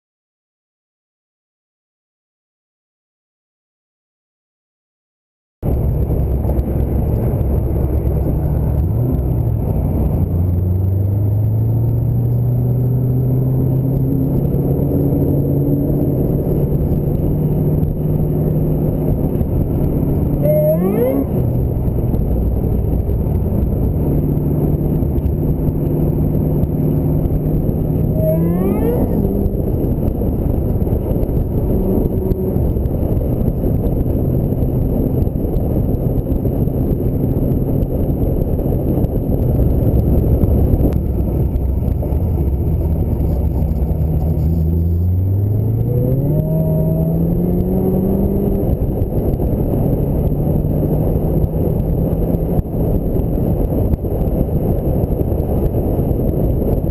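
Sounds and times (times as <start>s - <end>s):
car engine running: 5.6s - 56.9s
road and wind noise: 5.6s - 56.9s.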